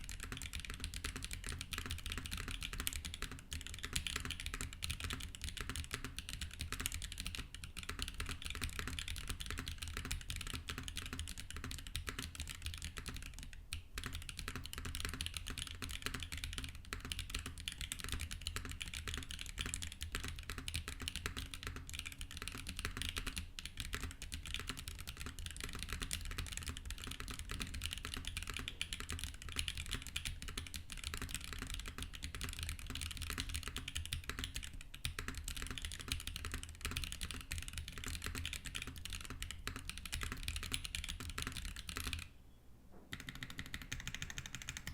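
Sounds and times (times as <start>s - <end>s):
mechanical keyboard typing: 0.0s - 42.3s, 43.1s - 44.9s.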